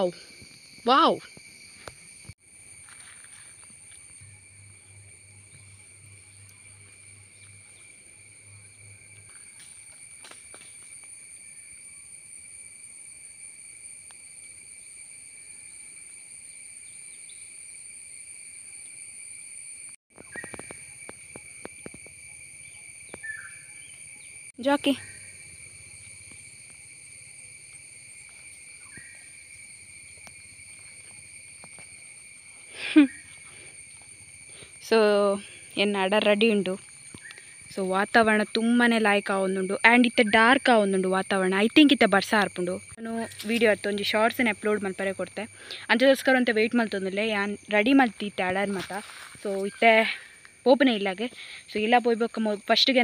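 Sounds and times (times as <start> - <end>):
insect chorus shrilling: 0.0 - 53.0.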